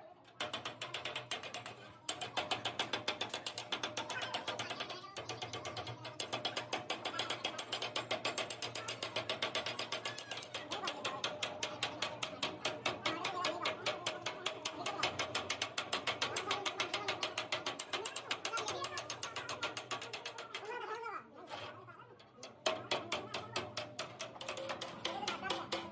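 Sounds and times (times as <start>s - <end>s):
rapid mechanical clicking: 0.3s - 20.9s, 21.6s - 25.9s.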